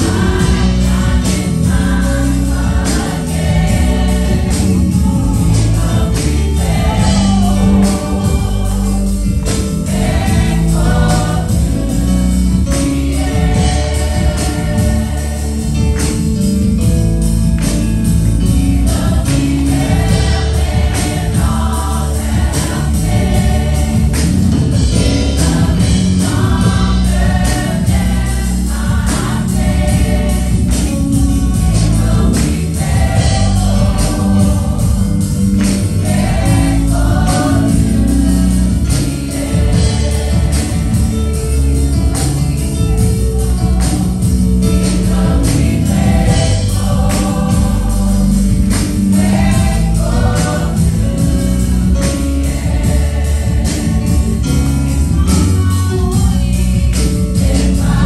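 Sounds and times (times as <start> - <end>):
drum kit with strong bass: 0.0 - 58.0
electric keyboard: 0.0 - 58.0
women and girls choir singing gospel: 0.0 - 58.0.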